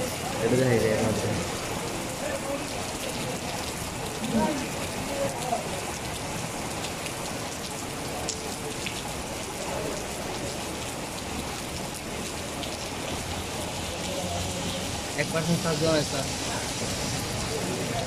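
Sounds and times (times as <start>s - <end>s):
heavy rain on a paved road: 0.0s - 18.0s.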